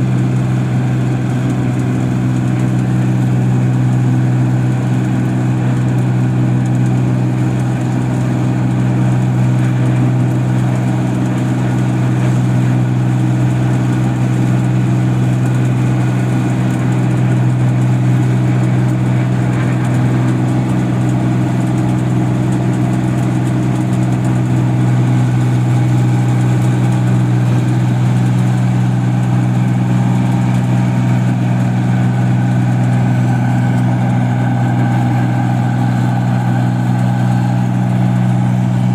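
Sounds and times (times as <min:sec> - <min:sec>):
machine engine humming: 0:00.0 - 0:38.9.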